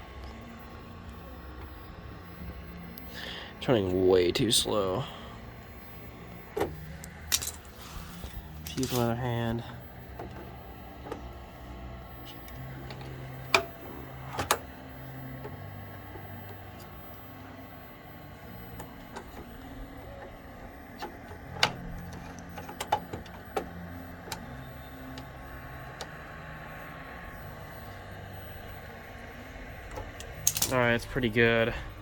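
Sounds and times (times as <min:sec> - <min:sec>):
television low hum: 0:00.0 - 0:32.0.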